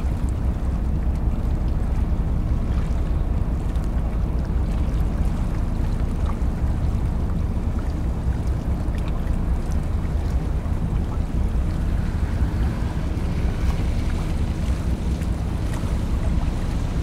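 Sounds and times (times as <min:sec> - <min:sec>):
diesel engines low drone: 0:00.0 - 0:17.0.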